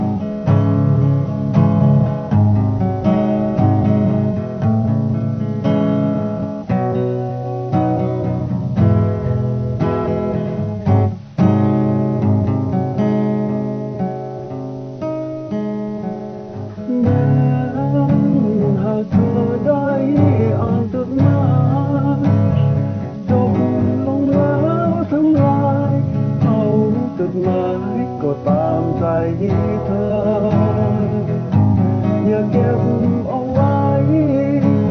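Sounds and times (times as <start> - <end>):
acoustic guitar chords: 0.0 - 34.9.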